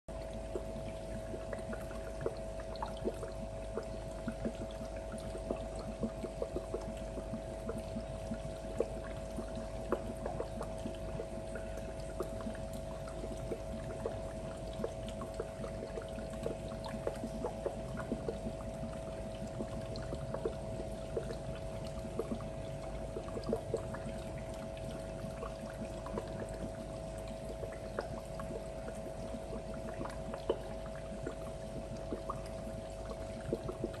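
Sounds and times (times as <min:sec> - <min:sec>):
filter hum: 0:00.1 - 0:34.0
water trickling and splashing: 0:00.3 - 0:34.0.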